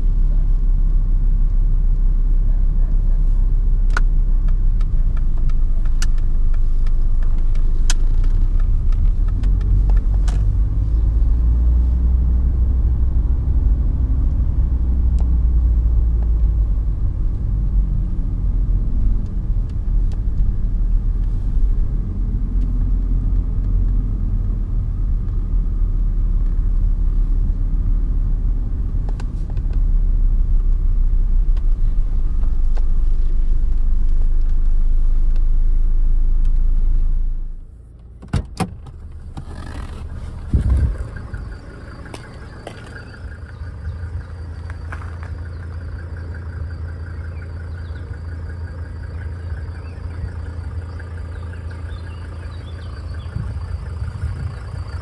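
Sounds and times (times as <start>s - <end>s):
diesel engine rumble: 0.0s - 55.0s.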